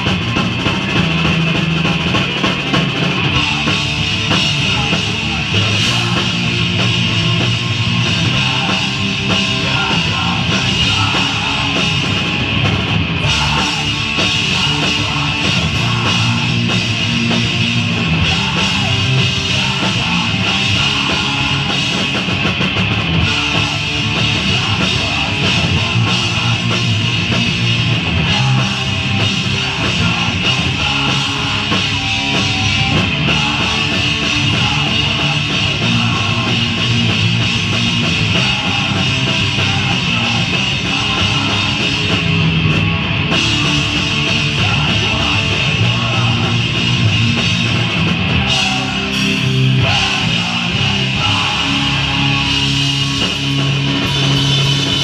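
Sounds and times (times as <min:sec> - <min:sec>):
punk band playing live: 0:00.0 - 0:55.0.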